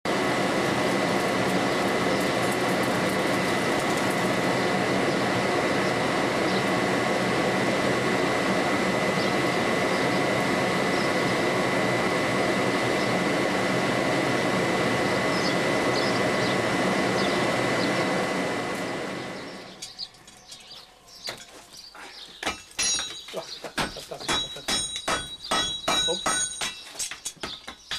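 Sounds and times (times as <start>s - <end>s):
forge blower whining: 0.1s - 26.8s.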